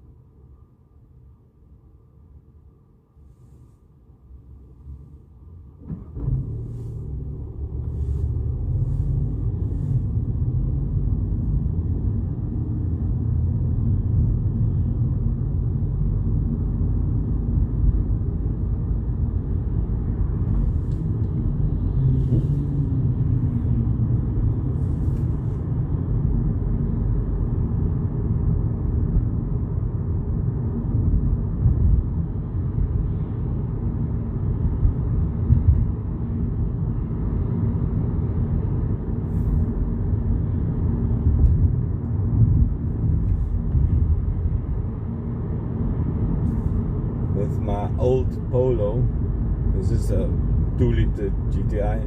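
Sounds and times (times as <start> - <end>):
car interior road rumble: 3.3 - 52.0.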